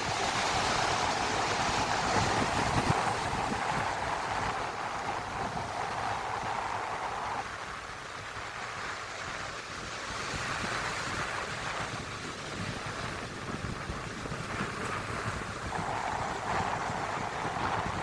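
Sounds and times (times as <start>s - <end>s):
ocean surf washing onto beach: 0.0s - 18.0s
wind rumbling on microphone: 0.0s - 18.0s.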